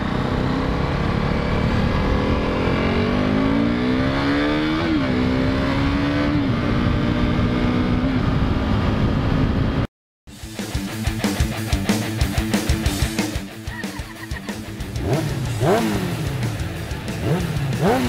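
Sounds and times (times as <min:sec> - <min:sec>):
motorcycle engine accelerating: 0:00.0 - 0:09.9, 0:10.5 - 0:18.0.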